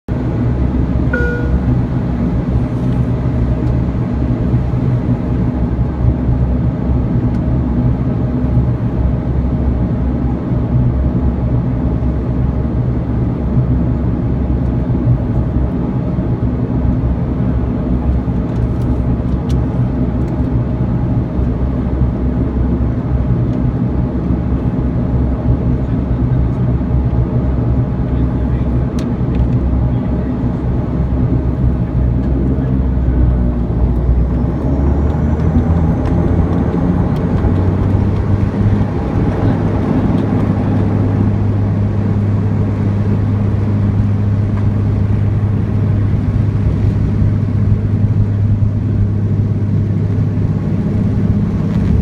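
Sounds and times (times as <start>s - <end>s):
turboprop engine drone: 0.1s - 52.0s.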